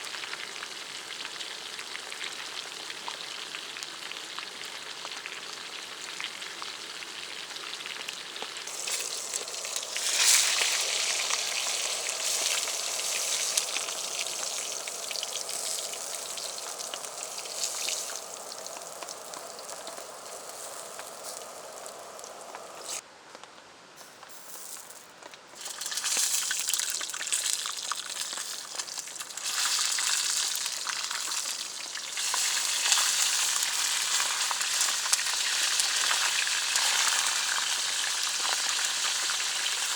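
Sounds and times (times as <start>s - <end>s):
food sizzling in a pan: 0.0s - 23.0s, 25.6s - 39.9s
rain: 0.0s - 23.0s, 25.6s - 39.9s.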